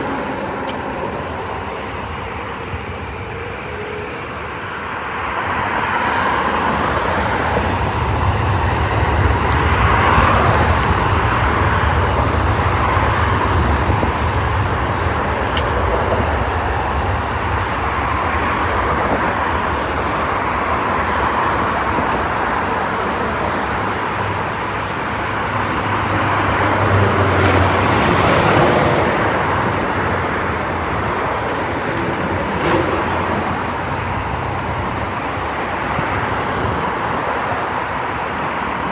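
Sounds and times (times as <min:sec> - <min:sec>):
jet engines roaring at takeoff: 0:00.0 - 0:38.9
road traffic passing: 0:00.0 - 0:38.9.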